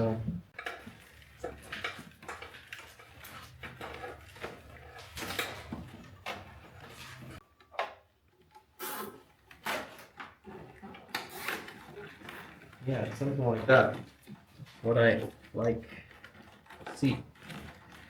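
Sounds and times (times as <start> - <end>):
wires and plastic rustling: 0.0 - 18.0.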